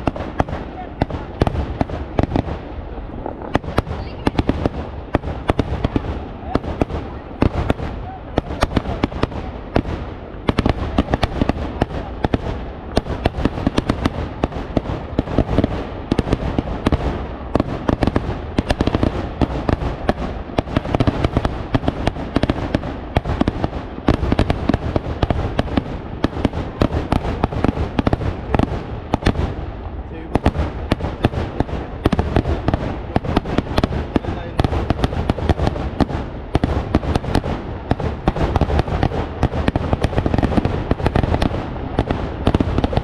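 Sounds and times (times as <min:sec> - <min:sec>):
firecracker bangs and crackles: 0:00.0 - 0:43.0.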